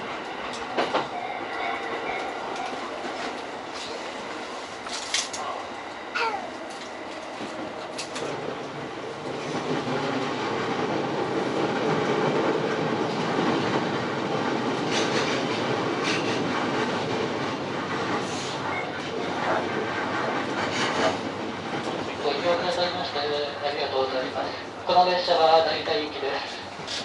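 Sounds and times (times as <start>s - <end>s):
train rolling noise: 0.0s - 27.0s.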